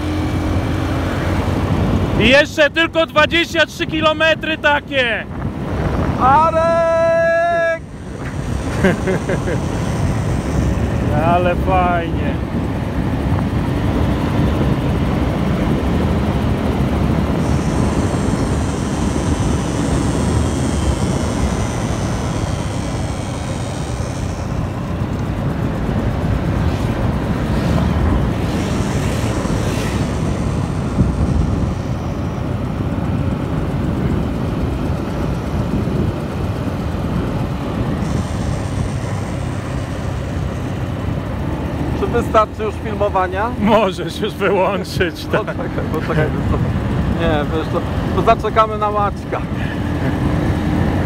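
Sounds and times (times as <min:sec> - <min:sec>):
road and wind rush: 0:00.0 - 0:51.0
vehicle engine drone: 0:00.0 - 0:51.0
high buzz: 0:05.9 - 0:50.1.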